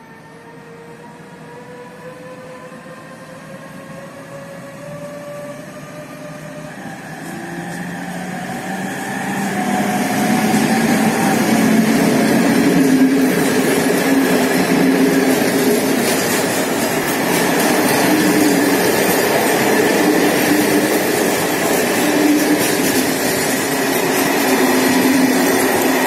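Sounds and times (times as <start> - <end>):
electric locomotive whining: 0.0 - 26.0
train coaches rumbling by: 0.0 - 26.0.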